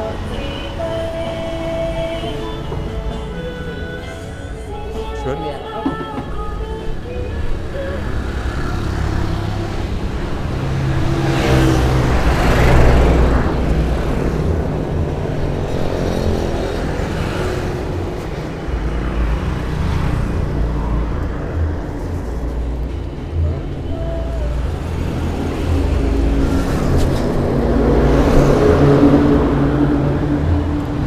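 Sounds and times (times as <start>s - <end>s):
motorbikes and cars passing: 0.0s - 31.0s.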